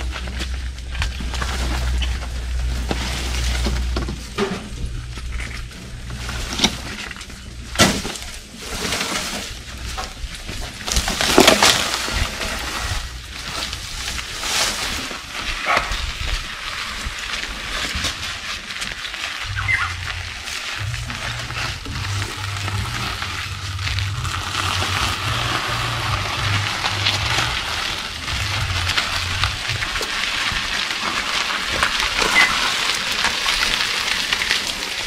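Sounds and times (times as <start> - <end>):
leaves and branches rustling: 0.0 - 35.0.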